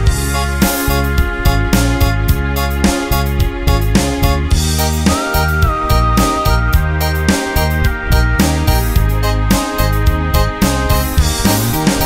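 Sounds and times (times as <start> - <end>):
karaoke band backing music: 0.0 - 12.0.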